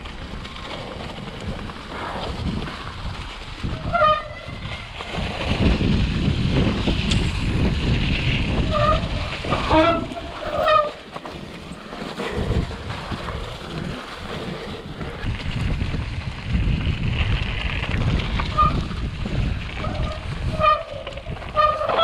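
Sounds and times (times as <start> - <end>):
wind rushing over microphone: 0.0 - 10.8, 11.6 - 22.0
bike tyres and frame rattling: 0.0 - 22.0.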